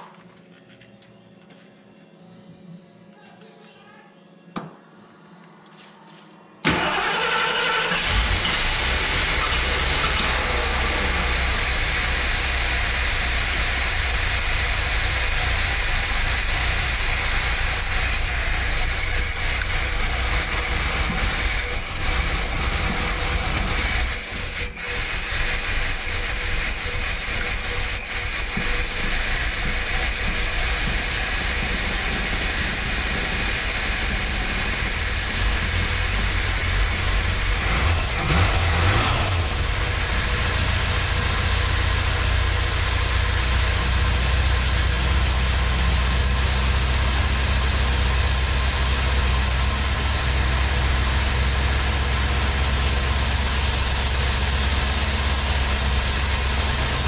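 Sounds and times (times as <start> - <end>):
car engine running: 6.7 - 57.0.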